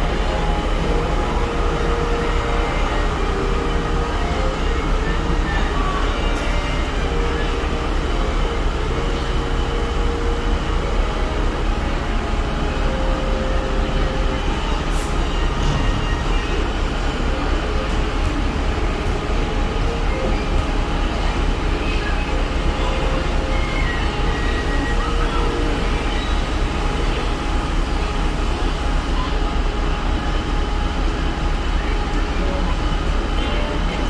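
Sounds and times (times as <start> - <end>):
ship low rumble: 0.0 - 34.0.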